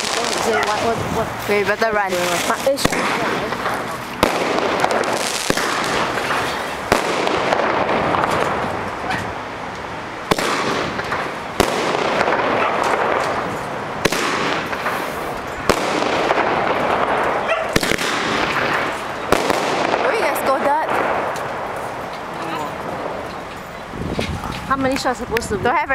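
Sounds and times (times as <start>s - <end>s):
crackling hiss: 0.0s - 25.1s
fireworks bangs: 0.0s - 25.5s.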